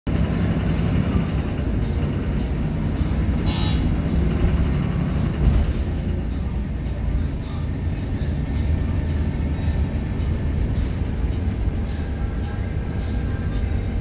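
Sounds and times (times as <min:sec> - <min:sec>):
bus diesel engine droning: 0:00.1 - 0:14.0.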